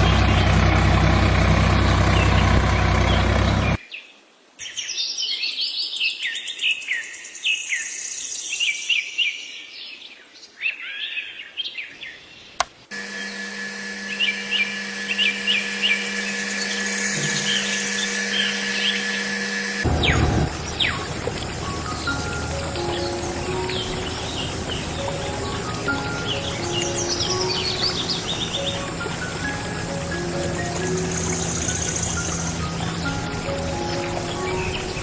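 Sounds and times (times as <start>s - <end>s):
songbirds chirping: 0.0s - 7.4s, 8.3s - 35.0s.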